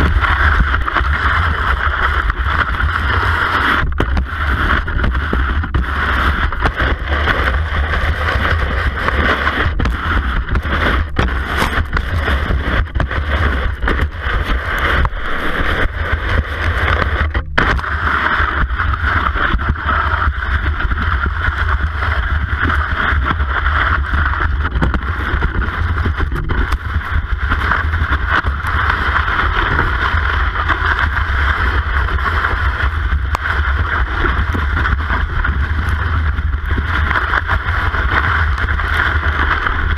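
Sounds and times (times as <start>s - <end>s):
low rumble: 0.0s - 39.9s
ski knocking in track: 0.0s - 39.9s.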